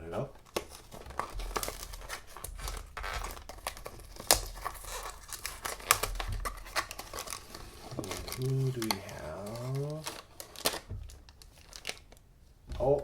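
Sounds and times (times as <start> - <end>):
packaging torn and crinkled: 0.4 - 12.3.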